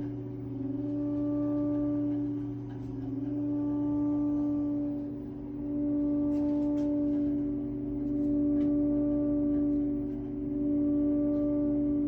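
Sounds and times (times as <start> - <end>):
boiler humming: 0.0 - 12.0.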